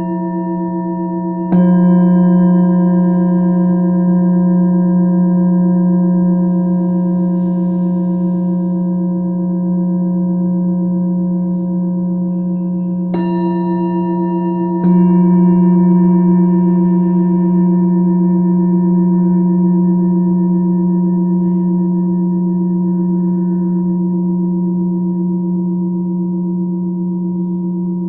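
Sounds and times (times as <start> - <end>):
tuned metal instruments ringing: 0.0 - 28.0.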